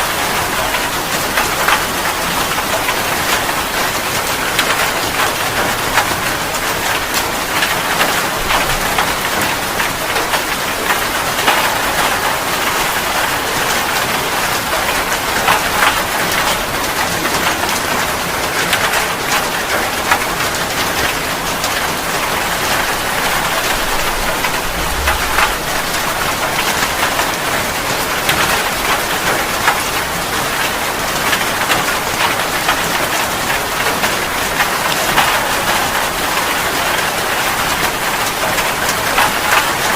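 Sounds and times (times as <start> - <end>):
steady rain falling: 0.0 - 39.9
raindrops clicking: 4.5 - 37.1.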